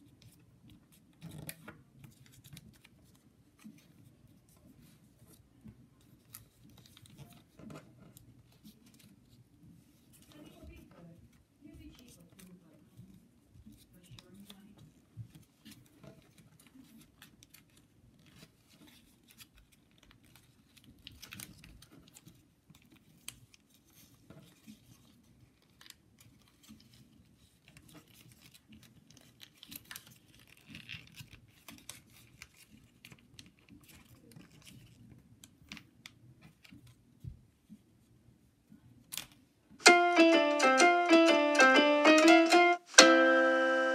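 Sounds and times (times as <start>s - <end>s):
paper rustling and crinkling: 0.0s - 37.8s.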